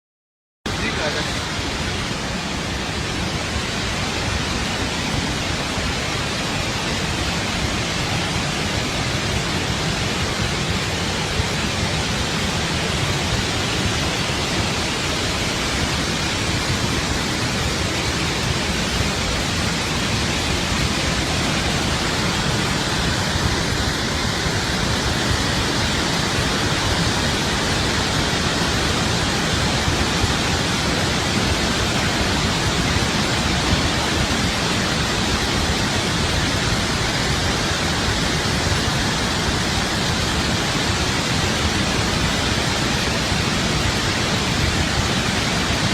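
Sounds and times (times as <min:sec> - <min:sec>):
rush of falling water: 0:00.7 - 0:45.9.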